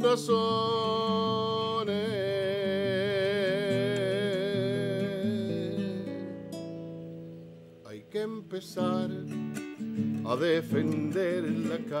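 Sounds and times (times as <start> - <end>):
plucked acoustic guitar: 0.0 - 12.0.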